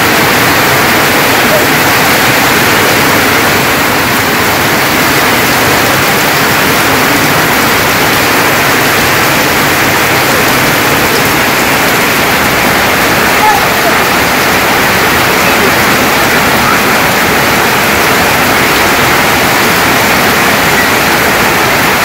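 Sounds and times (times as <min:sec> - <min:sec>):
heavy rain on tin roofs: 0:00.0 - 0:22.0.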